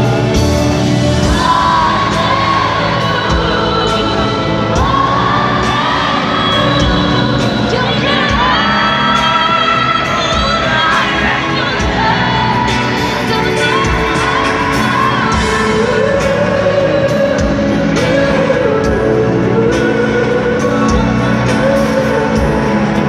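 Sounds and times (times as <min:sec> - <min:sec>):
live concert music with singing: 0:00.0 - 0:23.0.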